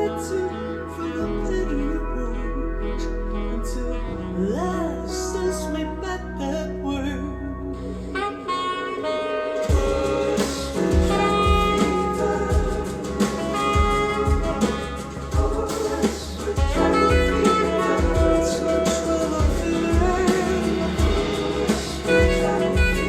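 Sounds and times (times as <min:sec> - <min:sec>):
jazz music over loudspeakers: 0:00.0 - 0:23.0.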